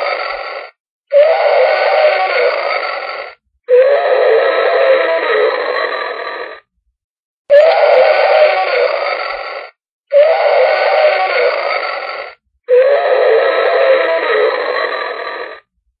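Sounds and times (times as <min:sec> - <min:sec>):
dinosaur roars: 0:00.0 - 0:06.7, 0:07.5 - 0:15.7.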